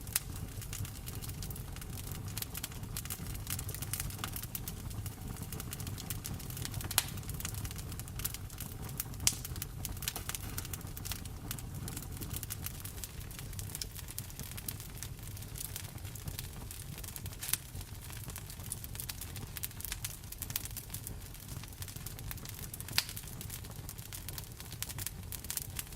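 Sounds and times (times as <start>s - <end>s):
fireplace fire crackling: 0.0s - 25.9s.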